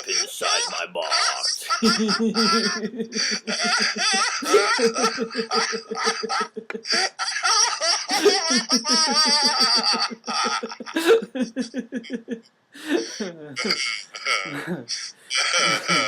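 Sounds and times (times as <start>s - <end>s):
men laughing: 0.0s - 16.0s.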